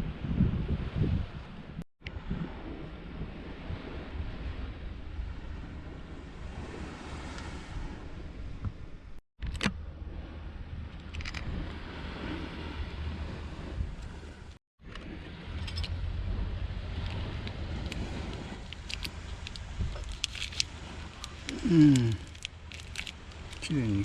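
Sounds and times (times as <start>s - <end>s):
sea surf: 0.0s - 9.2s, 9.8s - 24.0s
wind rumbling on microphone: 0.0s - 24.0s.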